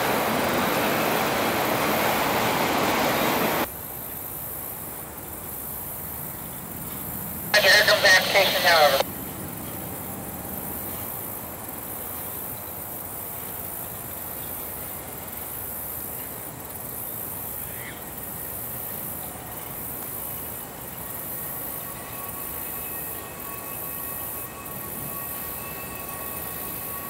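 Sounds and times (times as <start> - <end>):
high trill of insects: 2.6 - 27.0
faint thin steady tones: 3.9 - 27.0
distant freight train rumbling: 5.2 - 27.0.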